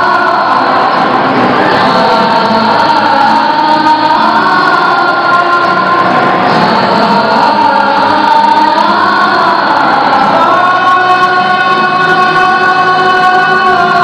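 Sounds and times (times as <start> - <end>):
group singing together: 0.0 - 14.0.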